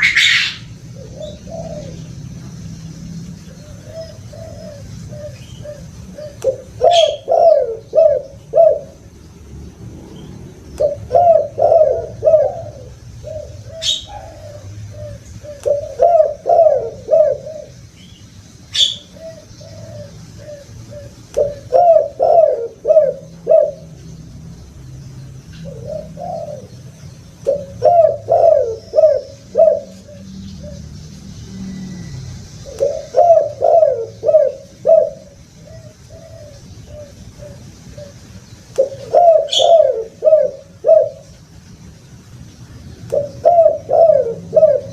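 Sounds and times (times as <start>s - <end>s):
dove cooing: 0.0s - 2.6s, 3.4s - 9.2s, 10.8s - 17.9s, 18.7s - 24.1s, 25.6s - 41.4s, 43.1s - 44.9s.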